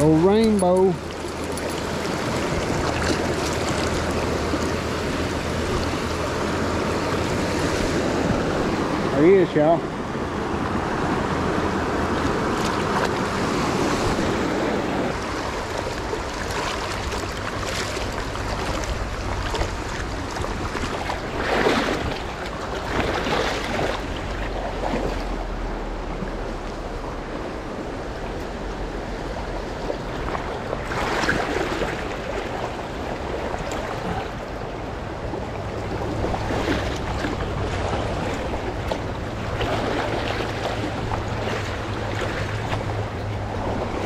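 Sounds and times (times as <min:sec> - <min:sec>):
river rushing over rapids: 0:00.0 - 0:44.0.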